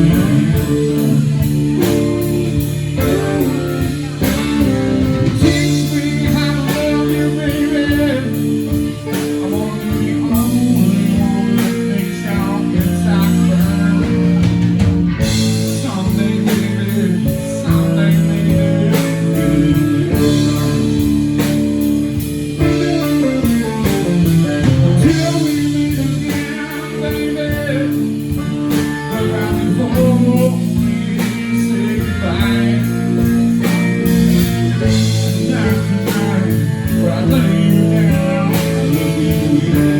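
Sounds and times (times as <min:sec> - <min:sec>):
electric guitar: 0:00.0 - 0:39.9
live blues-rock band: 0:00.0 - 0:39.9.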